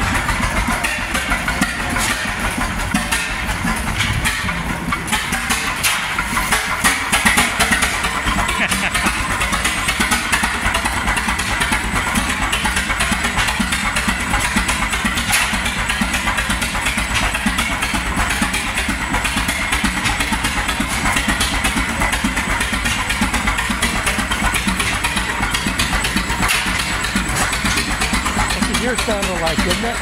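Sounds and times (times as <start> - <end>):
stationary engine running: 0.0 - 30.0.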